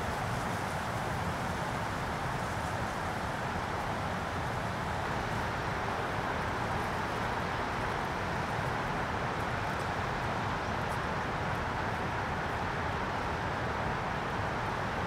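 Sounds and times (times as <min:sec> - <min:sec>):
outdoor ambient noise: 0:00.0 - 0:15.0.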